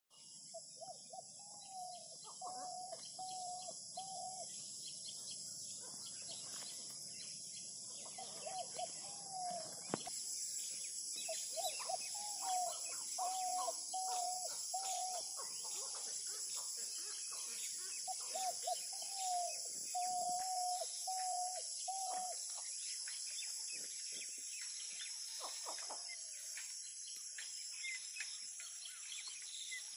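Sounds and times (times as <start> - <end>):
faint bird chirps: 0.1 - 29.9.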